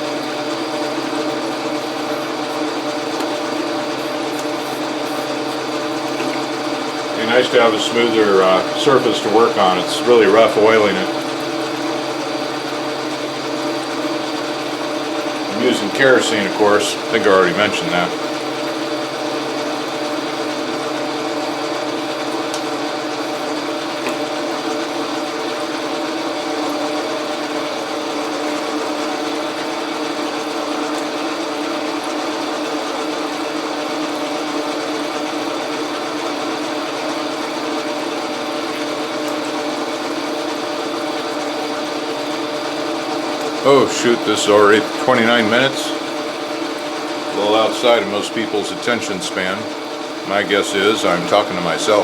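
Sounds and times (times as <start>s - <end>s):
metal lathe running: 0.0s - 52.0s.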